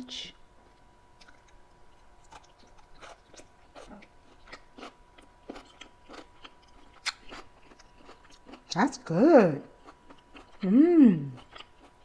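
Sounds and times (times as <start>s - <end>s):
person chewing noodles: 1.2s - 8.7s, 9.8s - 12.0s.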